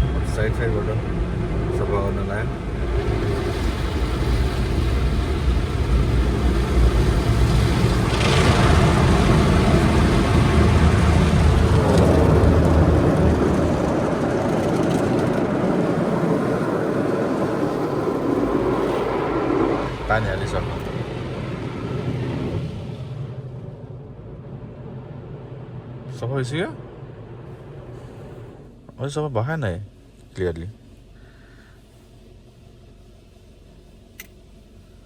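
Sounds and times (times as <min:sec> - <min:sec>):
car wash water jets and machinery: 0:00.0 - 0:31.2, 0:31.8 - 0:35.0.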